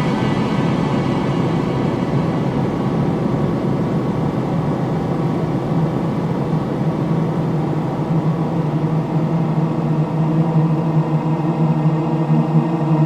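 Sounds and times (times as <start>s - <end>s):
low eerie drone: 0.0s - 13.0s.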